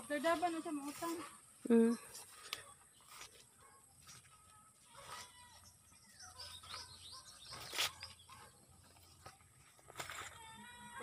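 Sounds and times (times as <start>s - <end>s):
small birds chirping: 0.2s - 9.8s.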